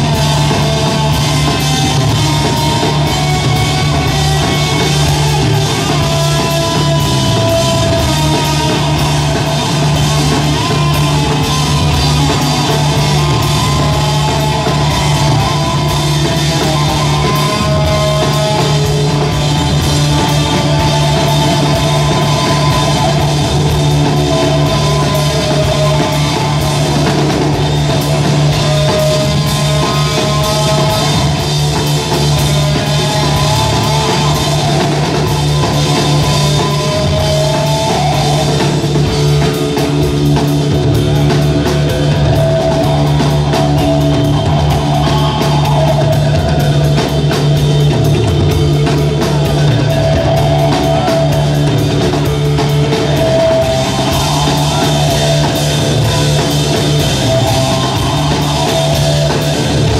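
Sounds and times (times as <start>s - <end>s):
bass line: 0.0s - 59.9s
drumming with cymbals: 0.0s - 59.9s
electric guitar lines: 0.0s - 59.9s.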